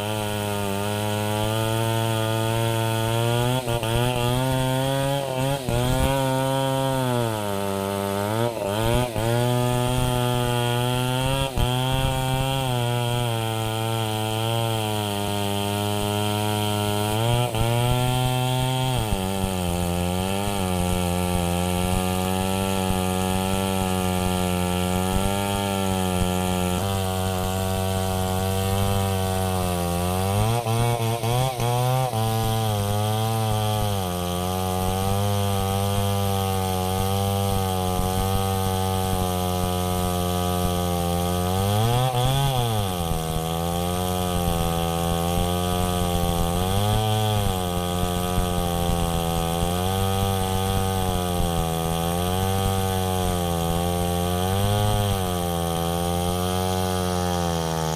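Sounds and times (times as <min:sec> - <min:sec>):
chainsaw cutting log: 0:00.0 - 0:57.9.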